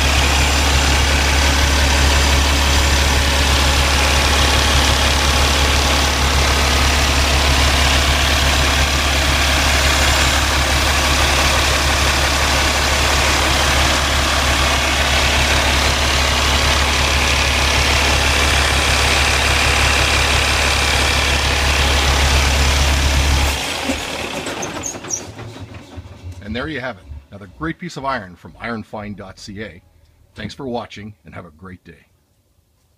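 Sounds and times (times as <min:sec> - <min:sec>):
diesel truck engine idling: 0:00.0 - 0:30.0.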